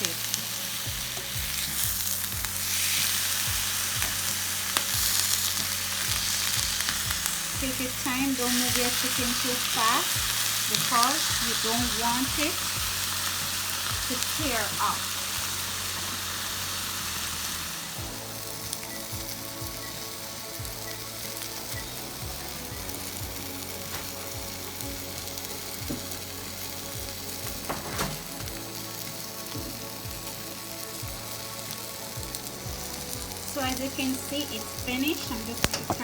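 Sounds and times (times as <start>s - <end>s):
chicken sizzling on a grill: 0.0s - 36.0s.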